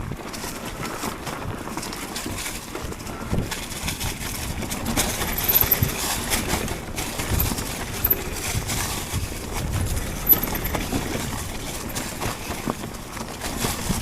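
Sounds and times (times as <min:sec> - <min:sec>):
bike knocking and rattling: 0:00.0 - 0:14.0
bike tyres rumbling: 0:00.0 - 0:14.0
wind noise on microphone: 0:00.0 - 0:14.0.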